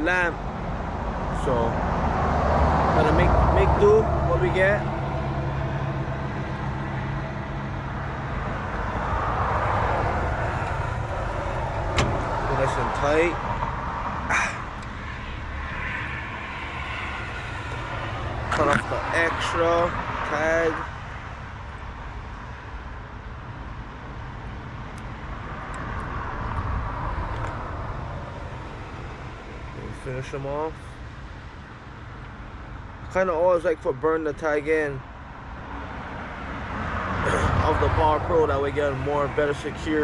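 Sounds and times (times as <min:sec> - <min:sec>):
road noise rush: 0:00.0 - 0:40.0
vehicle engine hum: 0:00.0 - 0:40.0.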